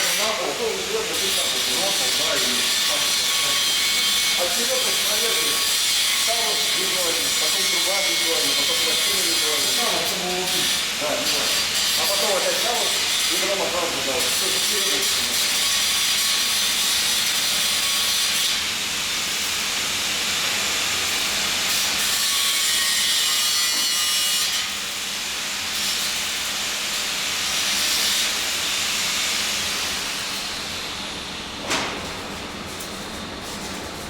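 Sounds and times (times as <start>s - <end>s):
arc welding crackling hiss: 0.0s - 30.7s.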